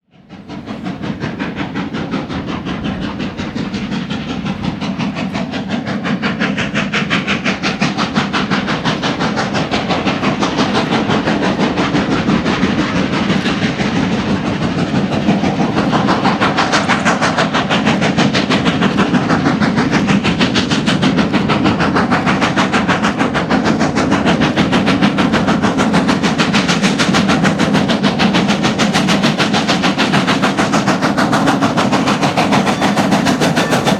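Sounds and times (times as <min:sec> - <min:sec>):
steam locomotive exhaust chuffs: 0:00.0 - 0:33.9.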